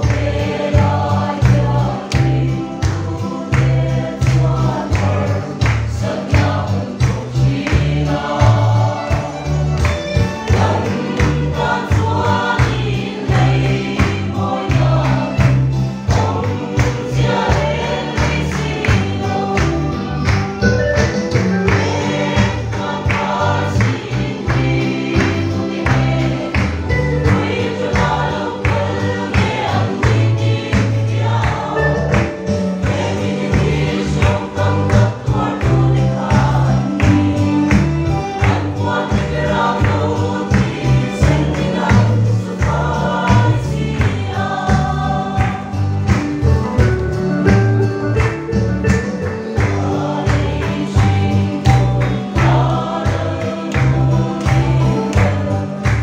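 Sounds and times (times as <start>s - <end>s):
choir singing gospel: 0.0s - 56.0s
drums beaten in steady rhythm: 0.0s - 56.0s.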